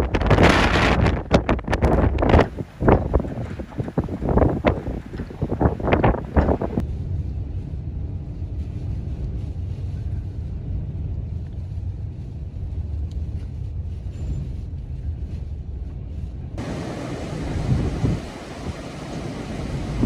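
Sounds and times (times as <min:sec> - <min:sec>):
vehicle engine and road rumble: 0:00.0 - 0:20.0
wind gusting on microphone: 0:00.0 - 0:20.0.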